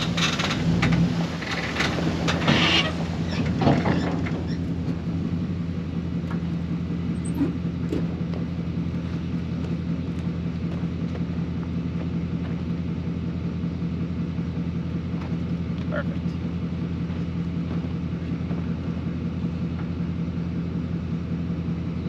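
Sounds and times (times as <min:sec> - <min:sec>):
dump truck engine running: 0:00.0 - 0:22.0.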